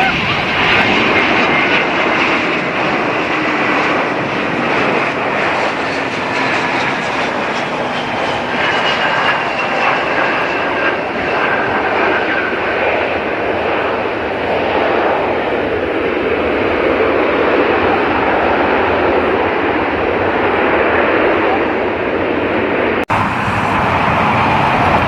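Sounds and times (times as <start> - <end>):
airliner engines roaring: 0.0 - 25.0.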